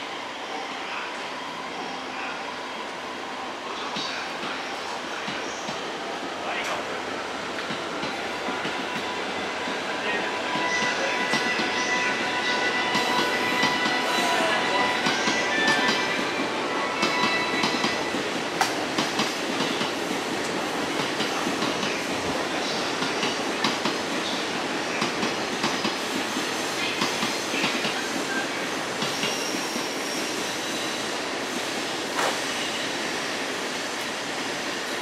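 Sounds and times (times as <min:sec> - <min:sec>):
train rumbling on tracks: 0:00.0 - 0:35.0.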